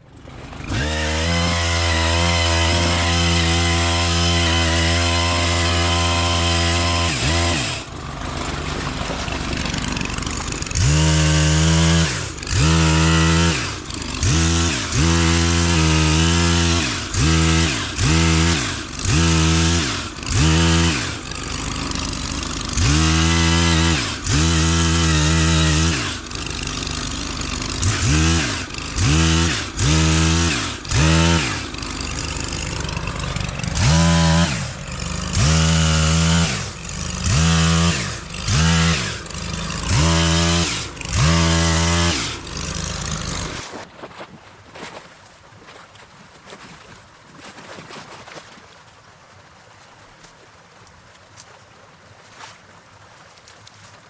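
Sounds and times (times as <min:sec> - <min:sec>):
pole saw engine revving: 0:00.0 - 0:43.9.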